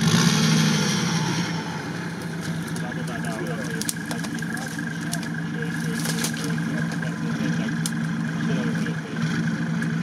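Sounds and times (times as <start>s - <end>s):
buggy engine running: 0.0s - 10.0s.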